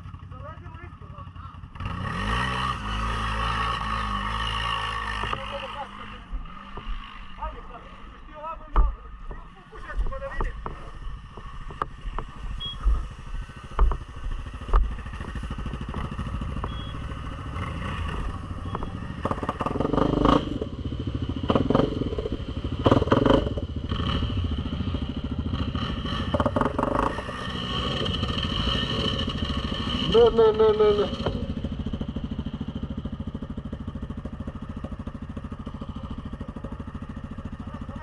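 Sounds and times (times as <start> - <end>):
quad engine revving: 1.3 - 8.9, 9.8 - 38.0.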